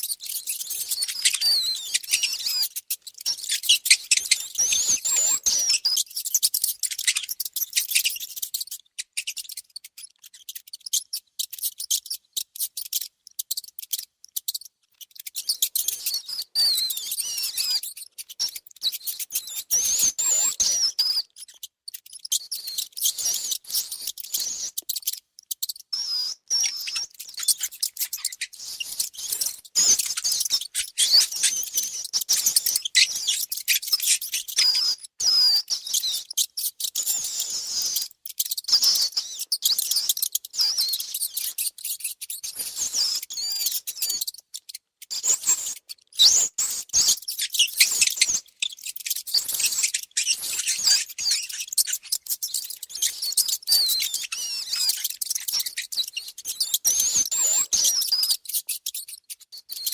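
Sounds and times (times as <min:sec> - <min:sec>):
mice squeaking: 0:00.0 - 0:59.9.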